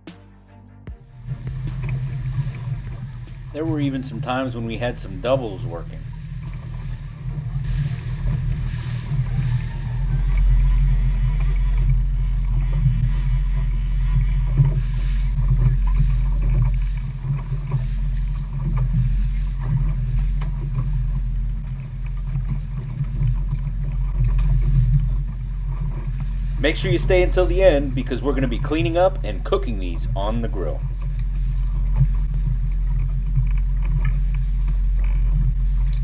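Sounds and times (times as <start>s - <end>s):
outboard motor drone: 0.0s - 36.0s
water noise: 0.9s - 36.0s
wind noise: 1.2s - 36.0s.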